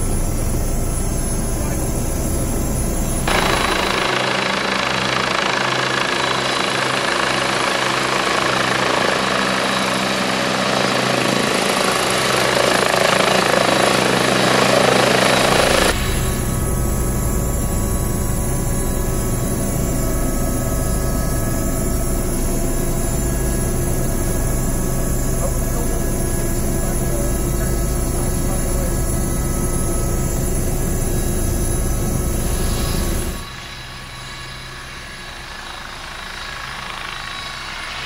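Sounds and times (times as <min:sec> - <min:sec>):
engine and rotor drone in cockpit: 0:00.0 - 0:38.0
helicopter engine and rotor: 0:00.0 - 0:38.0.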